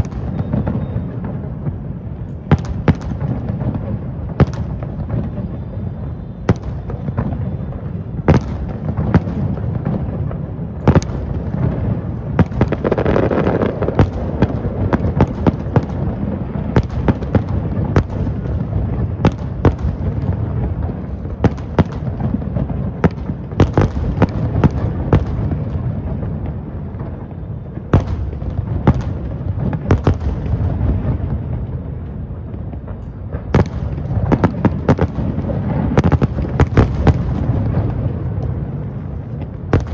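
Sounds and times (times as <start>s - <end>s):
fireworks bangs and cracks: 0.0s - 39.9s.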